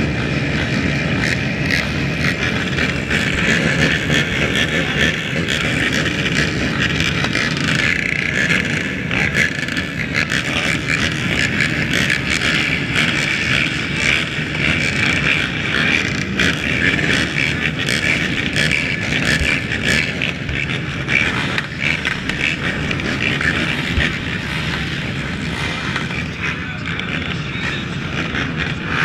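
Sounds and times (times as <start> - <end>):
atv engines idling: 0.0 - 29.0.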